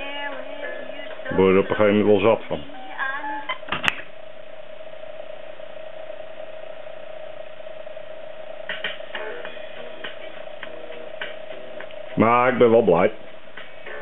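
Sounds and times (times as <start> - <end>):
steady mid-pitched tone: 0.0 - 14.0
tape deck transport running: 0.0 - 14.0
tape hiss: 0.0 - 14.0.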